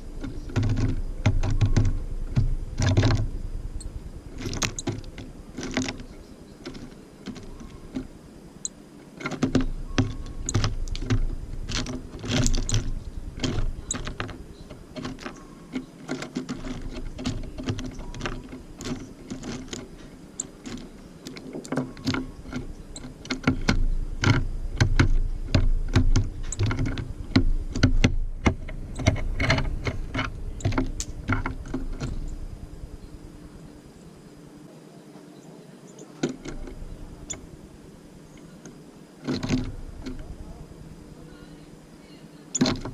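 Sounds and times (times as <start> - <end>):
birds pecking at a feeder: 0.0 - 42.9.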